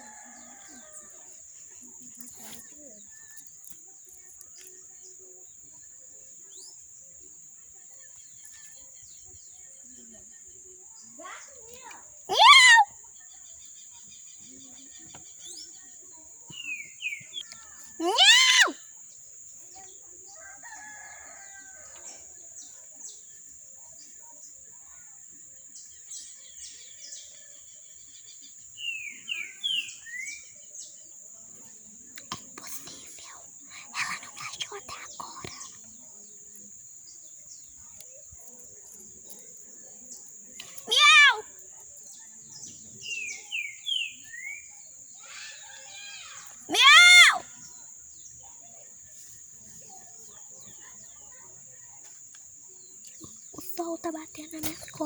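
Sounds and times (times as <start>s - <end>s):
faint bird chirps: 0.0s - 55.0s.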